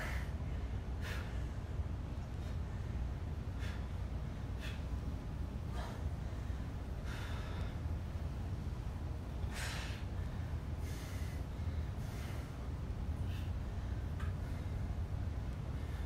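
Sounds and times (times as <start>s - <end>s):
man breathing hard: 0.0s - 8.0s, 9.4s - 16.0s
steady low hum: 0.0s - 16.0s.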